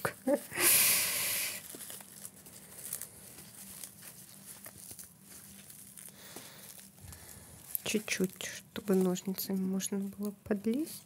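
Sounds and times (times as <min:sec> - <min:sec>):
scratchy tearing rustle: 0:00.2 - 0:11.0
ticks and rustles of handling: 0:01.6 - 0:11.0.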